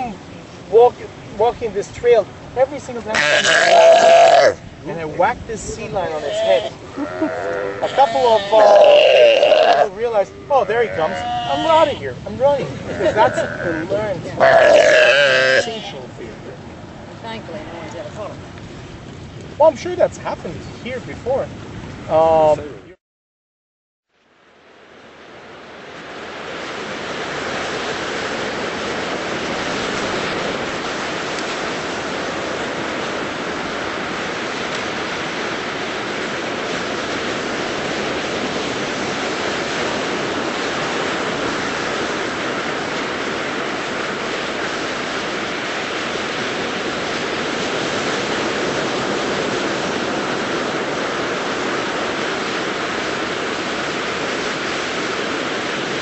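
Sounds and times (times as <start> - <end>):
ocean surf breaking: 0.0 - 22.9, 24.6 - 56.0.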